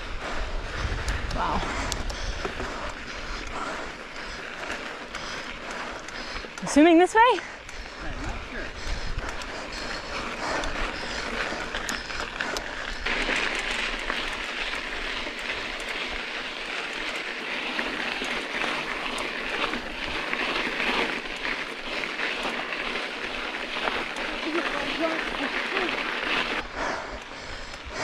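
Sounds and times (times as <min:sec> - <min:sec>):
bike tyres crunching over gravel: 0:00.0 - 0:28.0.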